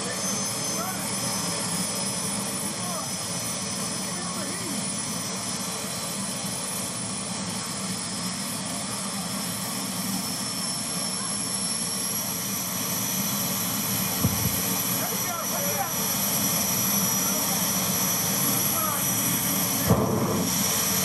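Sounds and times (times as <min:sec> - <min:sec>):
turbine engine whining: 0:00.0 - 0:21.0.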